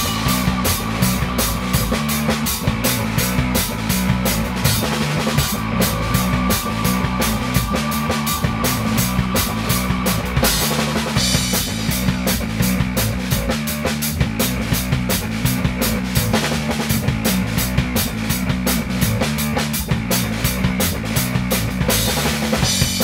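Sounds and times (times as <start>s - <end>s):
drum kit beat: 0.0s - 23.0s
electric guitar: 0.0s - 23.0s.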